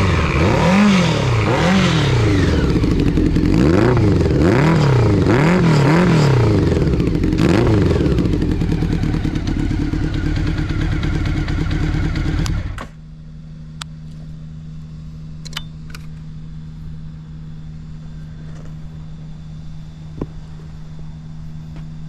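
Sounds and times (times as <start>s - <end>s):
motorcycle engine running: 0.0s - 22.0s
steady low hum: 0.0s - 22.0s.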